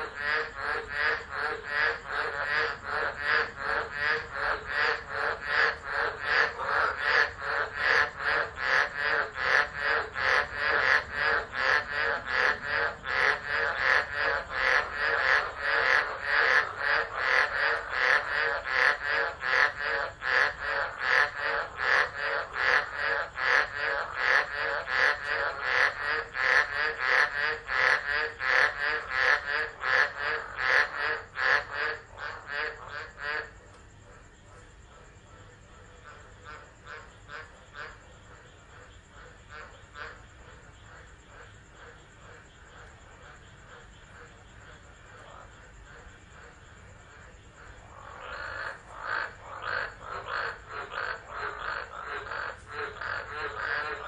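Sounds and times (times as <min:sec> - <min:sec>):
frogs croaking: 0:00.0 - 0:54.0.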